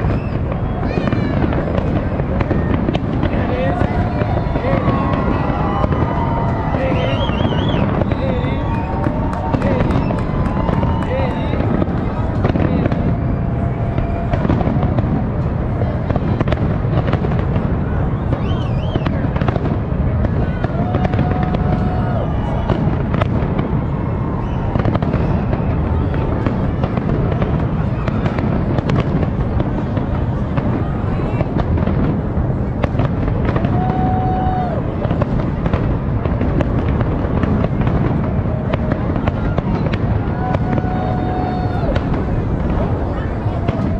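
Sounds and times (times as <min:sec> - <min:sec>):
firework whistle: 0:00.0 - 0:15.4, 0:16.1 - 0:30.0, 0:32.9 - 0:43.9
fireworks bursting: 0:00.0 - 0:43.9.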